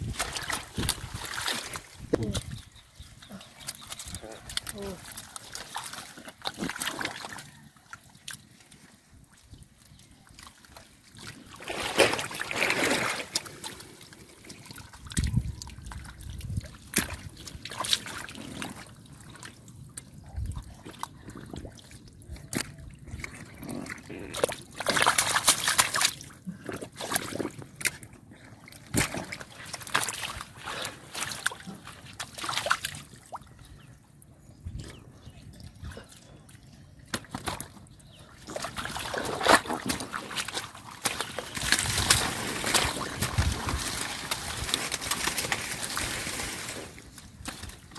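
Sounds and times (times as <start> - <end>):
shallow water splashing: 0.0 - 19.9, 20.8 - 33.9, 37.1 - 47.9.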